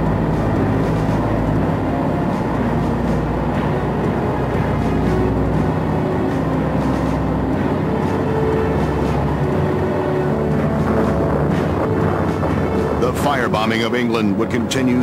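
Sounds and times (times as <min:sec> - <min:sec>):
aircraft engines droning: 0:00.0 - 0:15.0
background music: 0:00.0 - 0:15.0.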